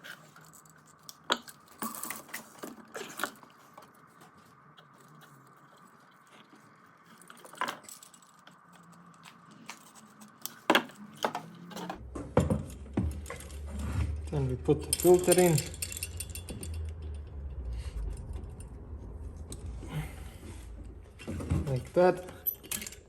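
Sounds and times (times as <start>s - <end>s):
small metal parts clinking: 0.0s - 18.8s, 21.2s - 23.0s.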